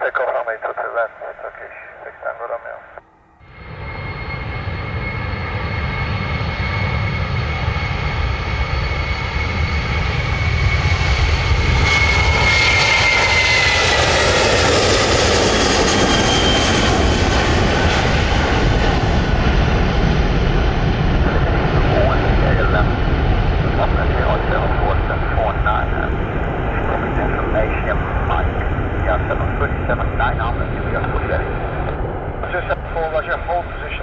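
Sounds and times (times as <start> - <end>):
high engine whine: 0.0 - 34.0
jet engines at takeoff: 0.0 - 34.0.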